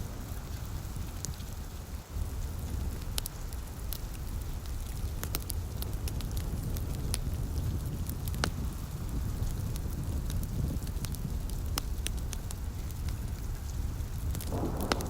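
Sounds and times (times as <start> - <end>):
light rain: 0.0 - 15.0
wood fire crackling: 0.0 - 15.0.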